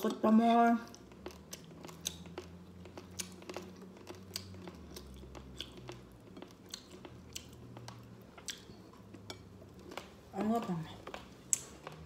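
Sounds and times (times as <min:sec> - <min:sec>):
person chewing crispy rice: 0:00.8 - 0:10.3, 0:11.0 - 0:12.0.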